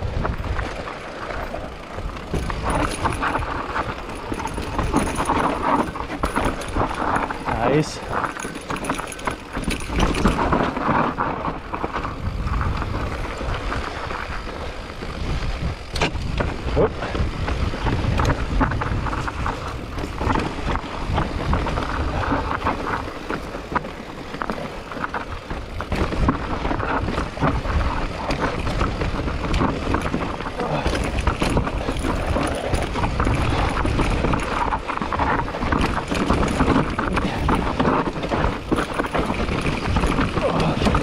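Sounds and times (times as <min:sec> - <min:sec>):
wind on microphone: 0:00.0 - 0:00.9, 0:01.5 - 0:41.0
bike frame and chain rattling: 0:00.0 - 0:41.0
tyres rumbling over dirt and rock: 0:00.0 - 0:41.0.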